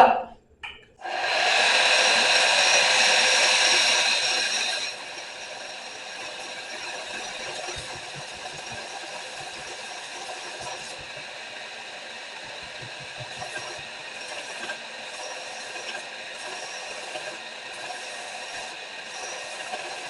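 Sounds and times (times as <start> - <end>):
electric grinder running: 1.0 - 20.0.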